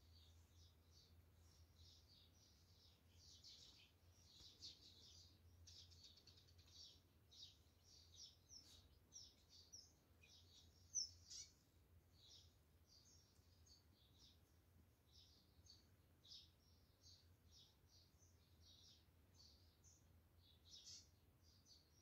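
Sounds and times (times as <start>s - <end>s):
small birds twittering: 0.0s - 22.0s.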